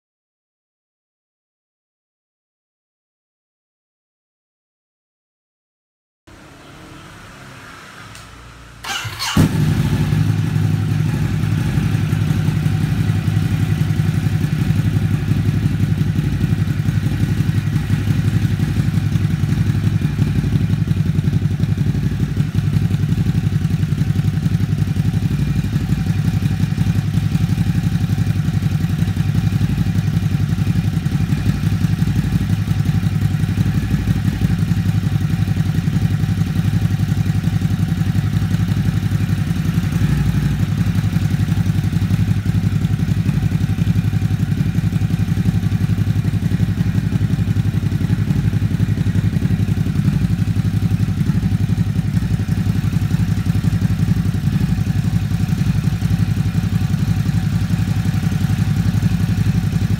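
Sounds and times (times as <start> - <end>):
motorcycle engine idling: 8.8 - 59.9.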